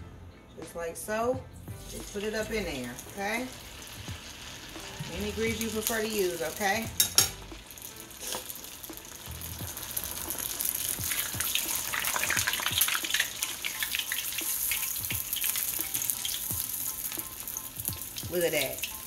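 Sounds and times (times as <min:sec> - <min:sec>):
food sizzling in hot oil: 0:01.7 - 0:19.0.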